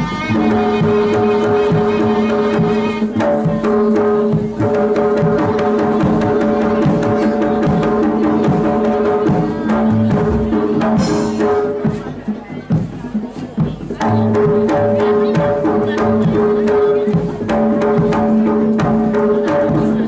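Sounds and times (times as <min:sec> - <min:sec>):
hand drum strokes: 0:00.0 - 0:20.0.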